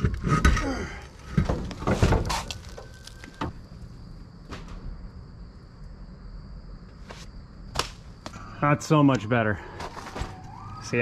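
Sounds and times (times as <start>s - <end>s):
high insect drone: 1.4s - 11.0s.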